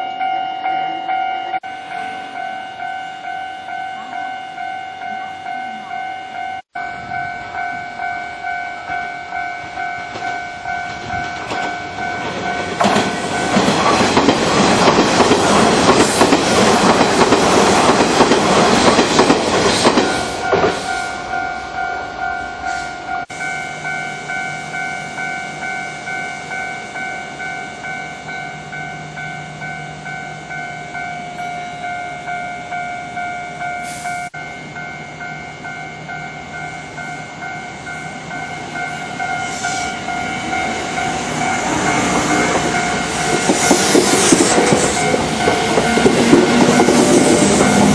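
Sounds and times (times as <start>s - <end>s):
level-crossing alarm ringing: 0.0s - 47.9s
train wheels rumbling on rails: 6.9s - 47.9s.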